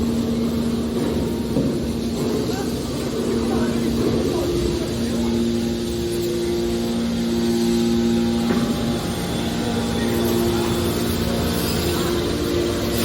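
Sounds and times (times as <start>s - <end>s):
hydraulic pump motor humming: 0.0s - 13.0s.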